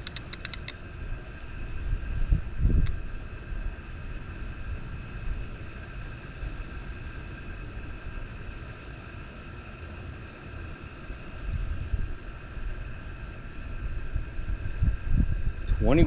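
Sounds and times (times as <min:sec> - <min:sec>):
wind rumbling on microphone: 0:00.0 - 0:08.8, 0:11.1 - 0:16.0.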